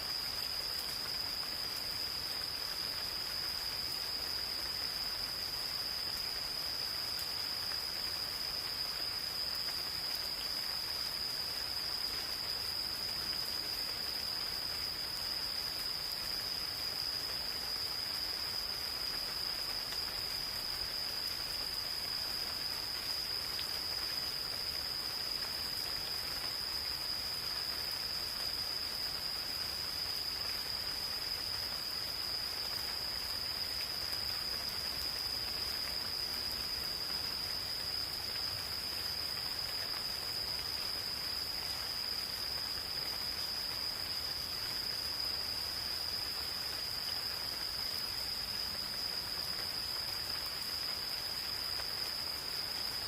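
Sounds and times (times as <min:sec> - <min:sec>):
gentle rain falling: 0:00.0 - 0:53.0
insects trilling: 0:00.0 - 0:53.0.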